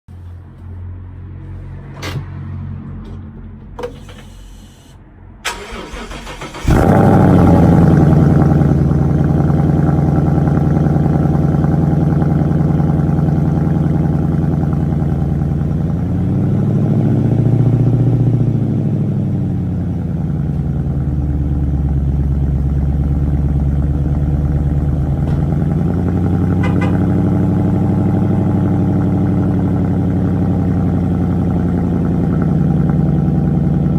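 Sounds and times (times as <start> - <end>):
car engine starting and idling: 2.8 - 33.9.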